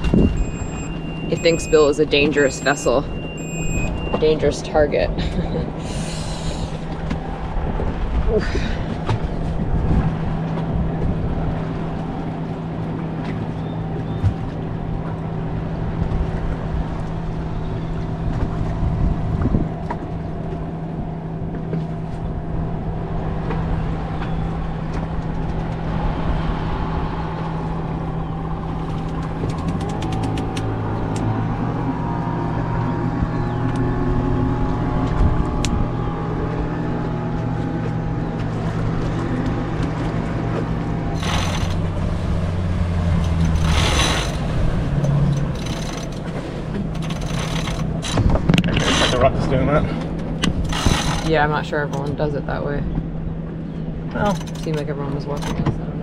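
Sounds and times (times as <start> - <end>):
boat motor running: 0.0 - 56.0
second boat motor wavering: 0.0 - 56.0.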